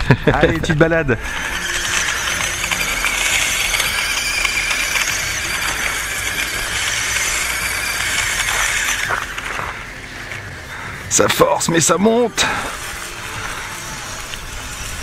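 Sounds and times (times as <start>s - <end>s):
tires on gravel: 0.4s - 15.0s
toy truck motor whining: 1.2s - 15.0s.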